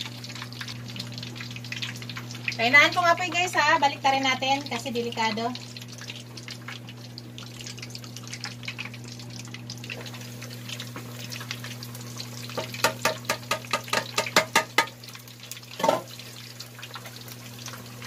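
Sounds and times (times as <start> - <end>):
meat deep-frying in oil: 0.0 - 18.0.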